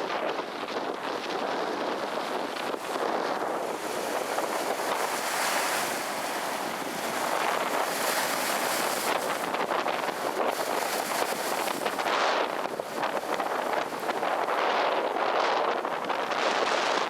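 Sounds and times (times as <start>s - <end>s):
surf roaring: 0.0s - 16.0s
wind buffeting microphone: 0.0s - 17.0s.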